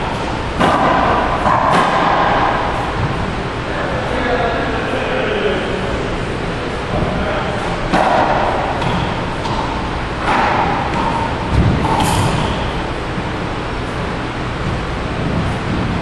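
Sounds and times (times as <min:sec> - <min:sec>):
racquetball hitting racquets and walls: 0:00.0 - 0:04.6, 0:06.4 - 0:16.0
steady background hum: 0:00.0 - 0:16.0.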